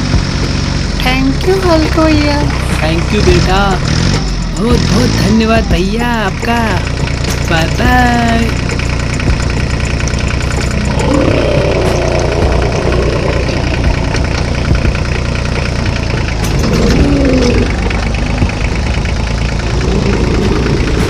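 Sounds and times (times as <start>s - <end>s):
tractor engine chugging: 0.0s - 21.0s.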